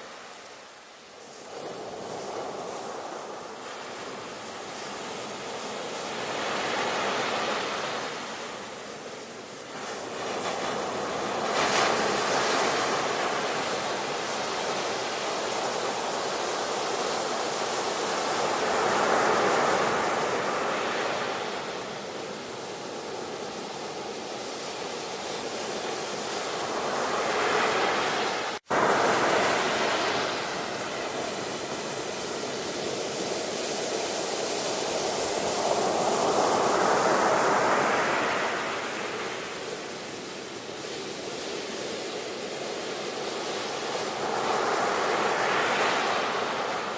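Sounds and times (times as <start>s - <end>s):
ocean surf waves: 0.0s - 46.9s.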